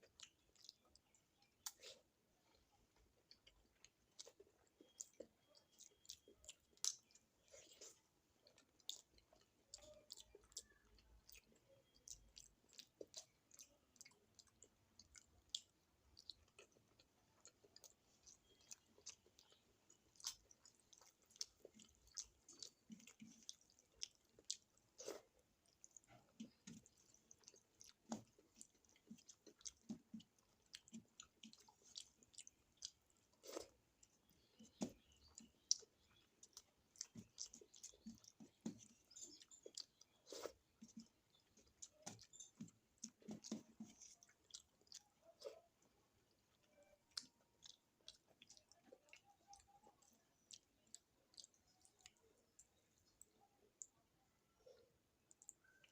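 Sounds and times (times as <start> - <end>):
mouth clicks and smacks: 0.0 - 54.0, 54.6 - 55.9
person chewing food: 0.0 - 55.9.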